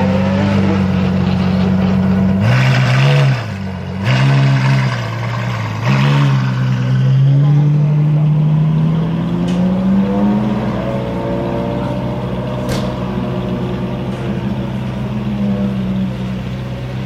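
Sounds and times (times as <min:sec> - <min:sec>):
car engine pulling away: 0:00.0 - 0:17.0.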